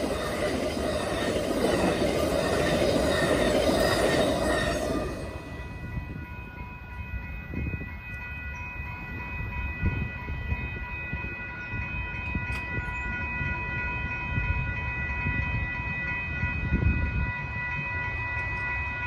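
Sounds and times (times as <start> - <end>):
crossing warning bell ringing: 0.0 - 19.0
train wheels on rail: 0.0 - 19.0.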